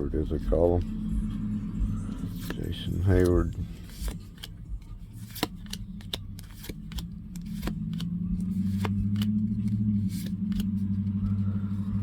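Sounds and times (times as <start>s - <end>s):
low engine drone: 0.0s - 12.0s
cards clicking and snapping: 2.2s - 12.0s.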